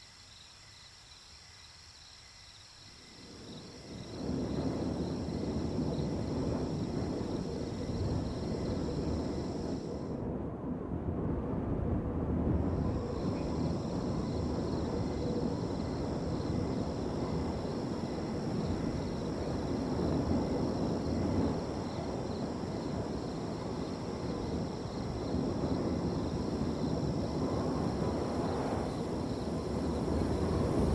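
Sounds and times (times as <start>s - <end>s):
crickets trilling: 0.0s - 10.2s, 12.7s - 30.9s
wind rushing through field: 2.8s - 30.9s.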